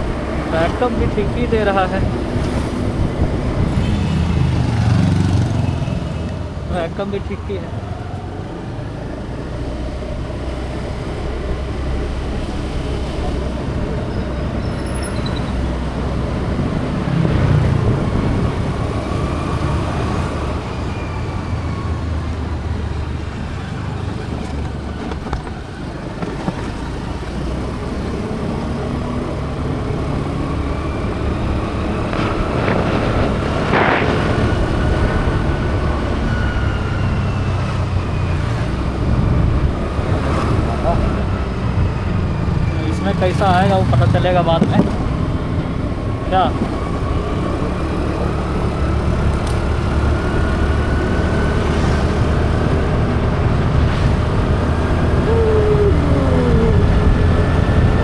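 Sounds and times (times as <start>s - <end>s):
traffic rumble: 0.0s - 58.0s
vehicles passing: 0.0s - 58.0s.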